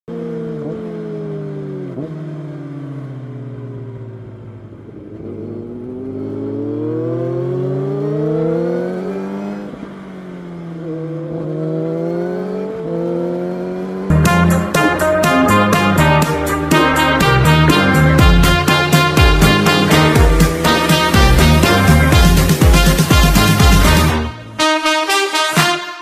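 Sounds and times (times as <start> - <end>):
motorcycle engine revving: 0.1 - 24.8.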